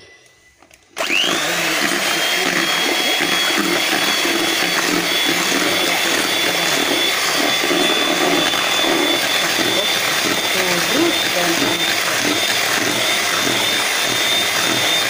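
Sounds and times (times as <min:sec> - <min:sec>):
electric hand mixer whining: 0:00.0 - 0:15.0
beaters whisking batter in bowl: 0:01.0 - 0:15.0.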